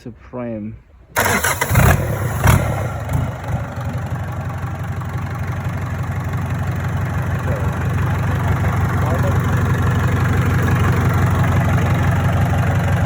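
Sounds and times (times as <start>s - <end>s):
diesel engine idling: 1.2s - 13.0s
engine knock: 1.2s - 13.0s.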